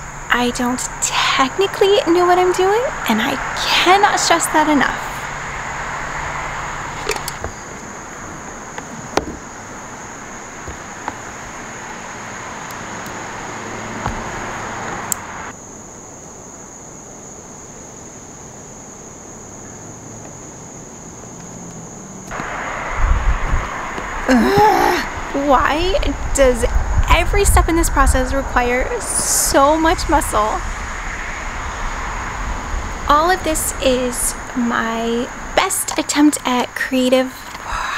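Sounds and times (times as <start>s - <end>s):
insects droning: 0.0s - 37.9s
outdoor background hiss: 0.0s - 37.9s.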